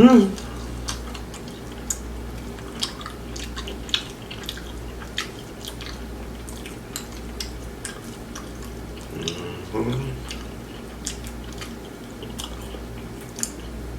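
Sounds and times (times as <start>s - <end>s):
chewing crispy food: 0.0s - 13.9s
wet mouth clicks and smacks: 0.8s - 13.8s.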